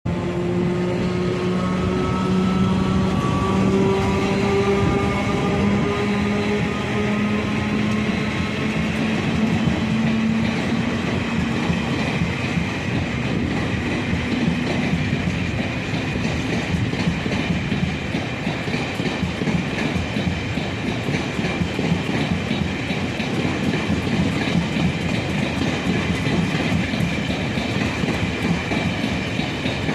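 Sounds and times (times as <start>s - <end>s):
train wheels rumbling and clacking: 0.1s - 29.9s.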